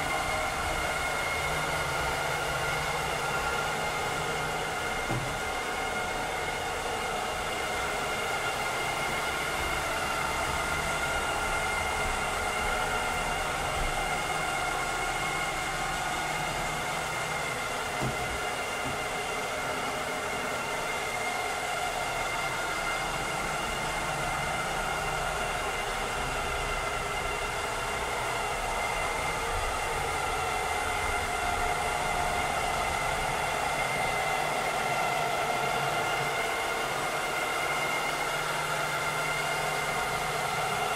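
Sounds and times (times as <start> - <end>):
robotic vacuum cleaner whirring: 0.0 - 40.9.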